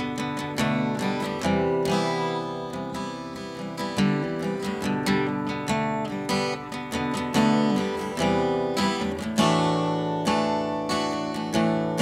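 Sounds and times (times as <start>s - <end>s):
acoustic guitar strummed: 0.0s - 12.0s.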